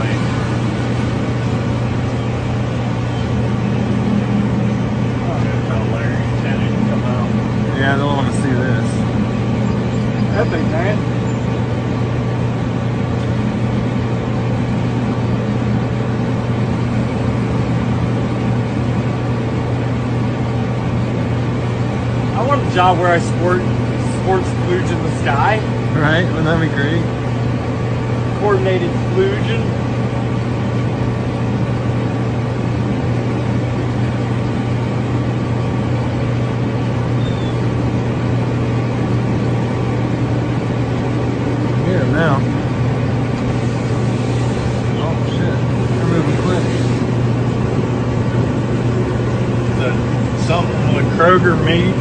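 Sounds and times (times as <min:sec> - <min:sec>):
road noise: 0:00.0 - 0:52.0
vehicle engine hum: 0:00.0 - 0:52.0.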